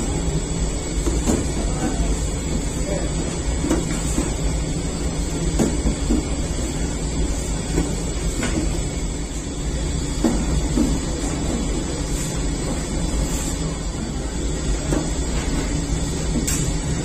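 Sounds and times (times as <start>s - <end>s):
dough sheeter mechanical rumble: 0.0s - 17.0s.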